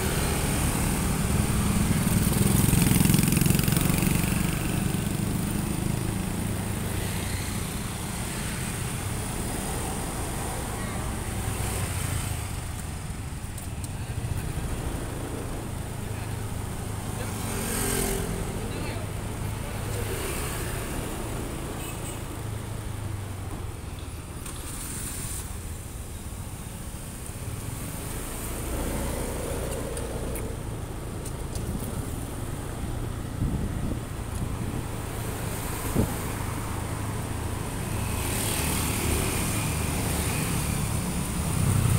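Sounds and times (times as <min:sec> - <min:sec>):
motorcycle and scooter engines: 0:00.0 - 0:41.9.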